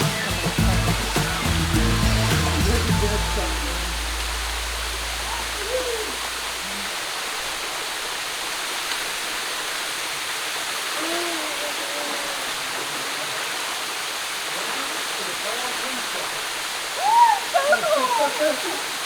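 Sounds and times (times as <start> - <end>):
waterfall pouring into pool: 0.0 - 19.0.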